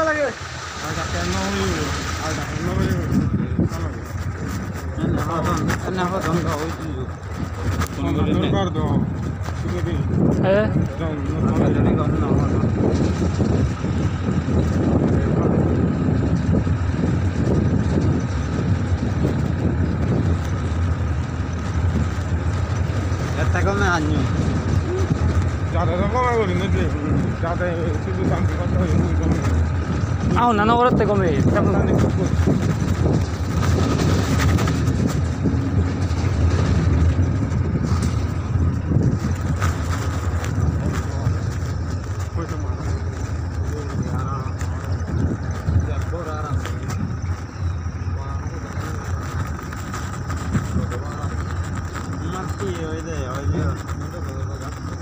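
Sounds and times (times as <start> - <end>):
road noise: 0.0 - 55.0
truck engine rumble: 0.0 - 55.0
vehicle driving on dirt track: 0.0 - 55.0.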